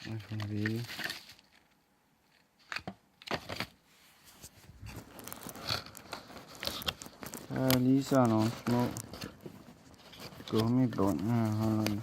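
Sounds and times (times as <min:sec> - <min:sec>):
packaging crinkling and rustling: 0:00.0 - 0:03.8, 0:04.4 - 0:12.0.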